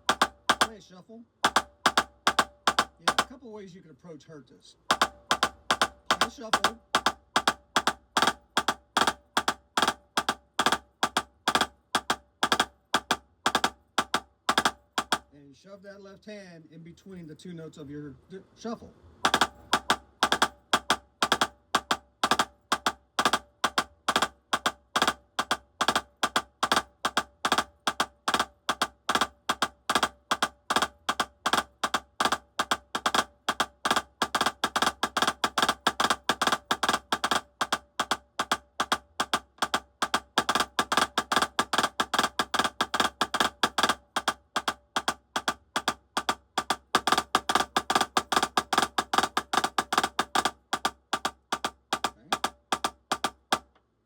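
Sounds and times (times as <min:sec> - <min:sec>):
drumsticks playing sticking pattern: 0:00.0 - 0:03.4, 0:04.8 - 0:15.3, 0:19.2 - 0:53.8.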